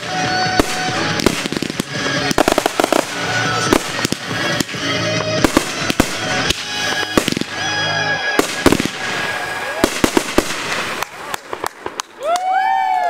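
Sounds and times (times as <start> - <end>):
fireworks banging: 0.0 - 12.6
fireworks crackle: 0.0 - 13.0.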